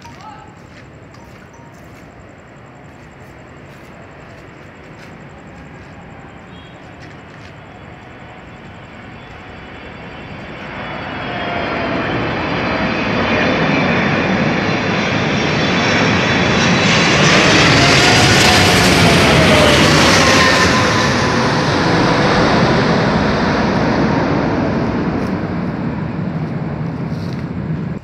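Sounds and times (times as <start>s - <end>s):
jet airliner flying overhead: 0.0s - 28.0s.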